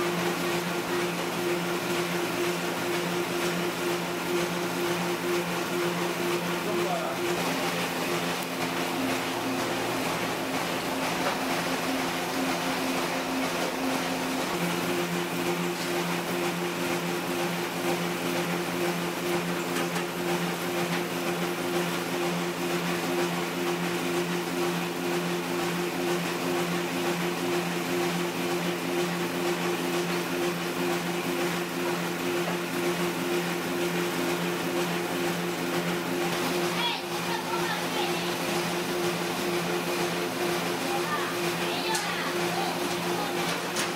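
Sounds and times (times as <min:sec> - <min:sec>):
dough sheeting machine hum: 0:00.0 - 0:43.9.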